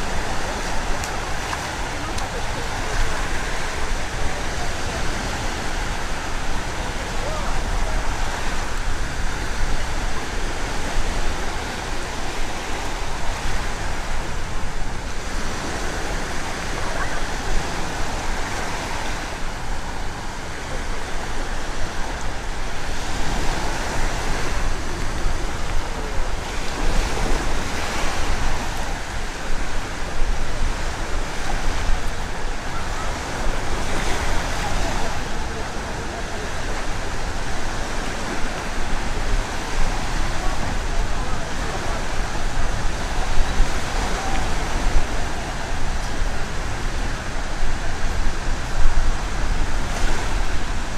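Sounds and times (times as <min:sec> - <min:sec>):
surf breaking on beach: 0:00.0 - 0:50.9
wind rumbling on microphone: 0:00.0 - 0:50.9.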